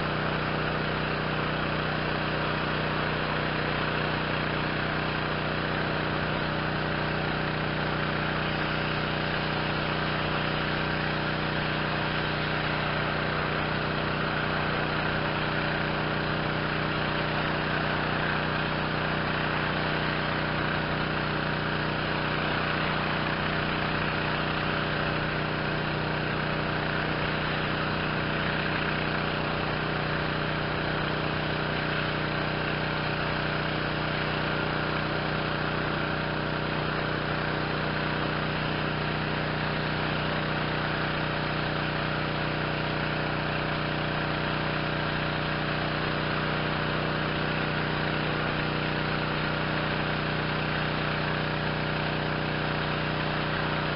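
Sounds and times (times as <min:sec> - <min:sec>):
pressure washer engine humming: 0:00.0 - 0:53.9.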